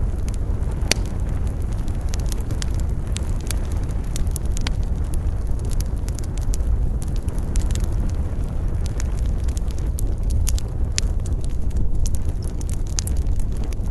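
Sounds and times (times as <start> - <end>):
campfire crackling: 0.0 - 13.9
low wind rumble: 0.0 - 13.9.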